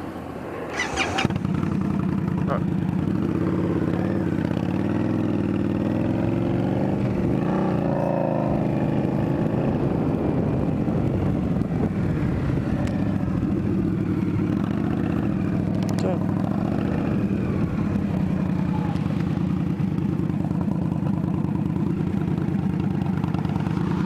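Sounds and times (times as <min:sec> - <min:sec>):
motorcycle engine revving: 0:00.7 - 0:24.0.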